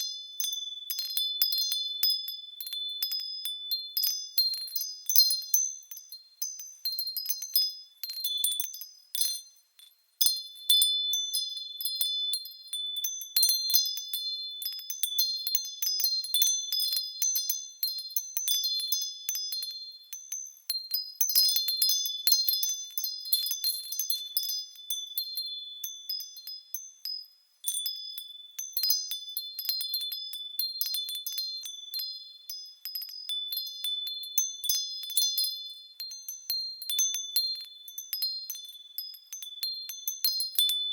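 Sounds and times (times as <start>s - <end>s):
wind chimes tinkling: 0.0s - 40.9s.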